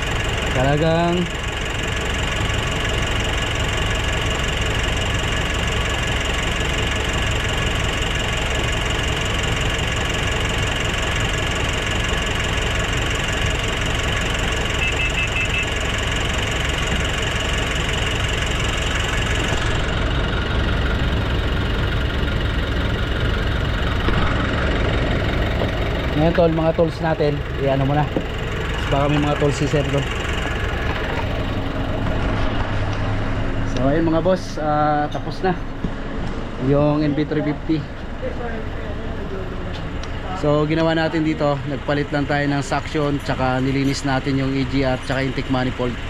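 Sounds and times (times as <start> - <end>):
diesel engine clattering: 0.0 - 46.0.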